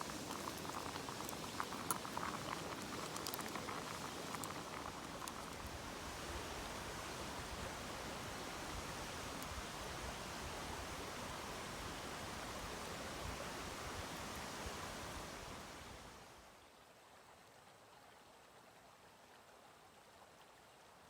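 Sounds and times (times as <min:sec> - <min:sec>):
mountain stream flowing: 0:00.0 - 0:21.0.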